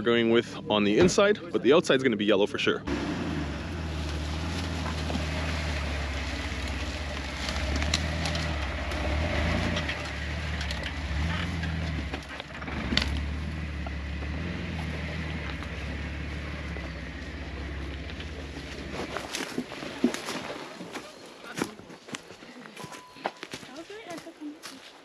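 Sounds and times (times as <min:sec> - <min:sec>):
off-road vehicle engine running: 0:00.0 - 0:20.6.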